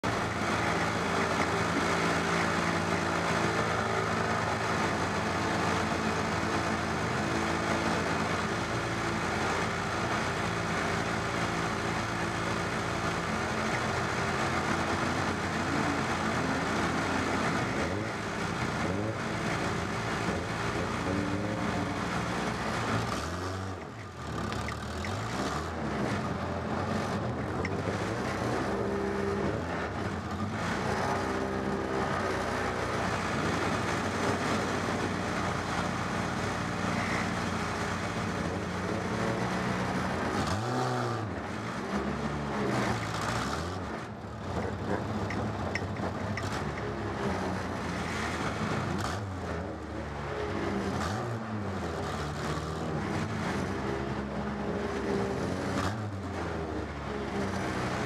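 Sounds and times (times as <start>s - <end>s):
race car engine idling and revving: 0.0s - 58.0s.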